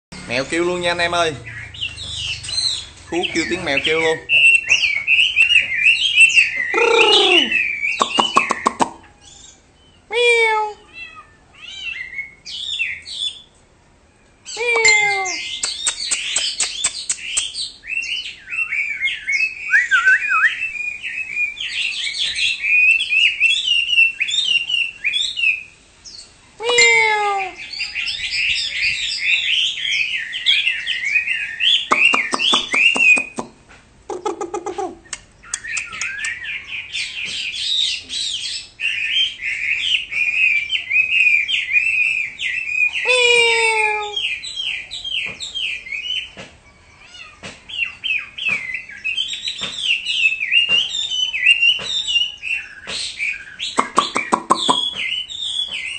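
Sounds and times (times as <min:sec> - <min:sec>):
low falling bird notes: 0:00.2 - 0:10.1, 0:14.2 - 0:55.9
bird singing whistled phrases: 0:01.4 - 0:10.0, 0:11.8 - 0:13.5, 0:14.4 - 0:25.8, 0:26.7 - 0:33.5, 0:35.0 - 0:46.4, 0:47.7 - 0:55.9.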